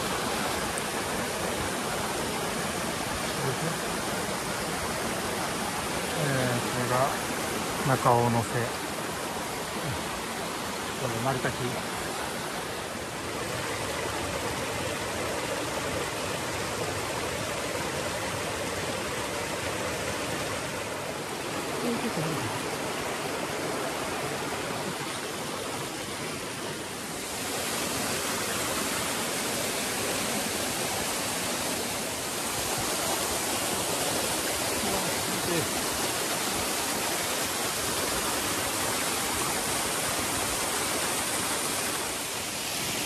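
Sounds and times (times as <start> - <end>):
small waterfall: 0.0 - 43.0
stream rushing over rocks: 0.0 - 43.0.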